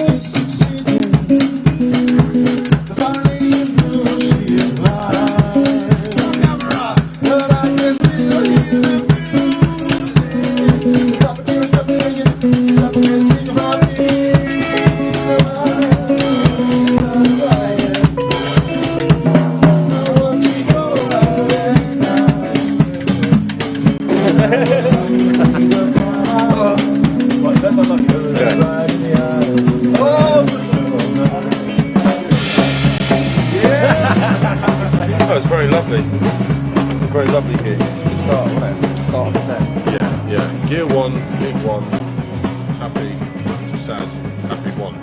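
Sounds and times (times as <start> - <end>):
band music: 0.0 - 45.0
drum kit beat: 0.0 - 45.0.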